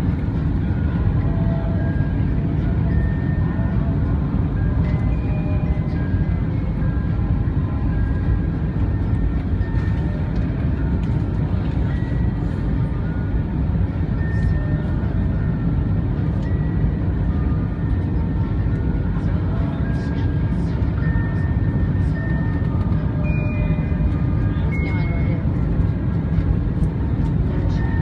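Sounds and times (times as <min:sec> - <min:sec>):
airplane cabin engine roar: 0:00.0 - 0:28.0.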